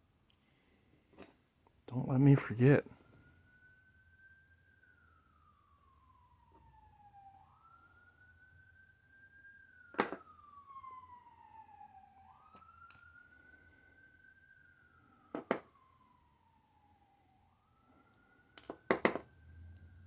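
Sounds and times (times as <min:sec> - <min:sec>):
faint siren wailing: 0:00.0 - 0:20.0.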